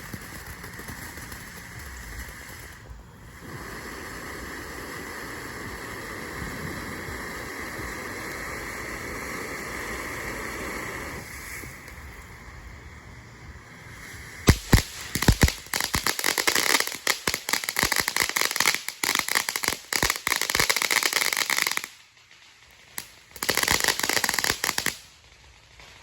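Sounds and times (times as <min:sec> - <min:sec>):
firework bangs and crackling: 0:00.0 - 0:26.0.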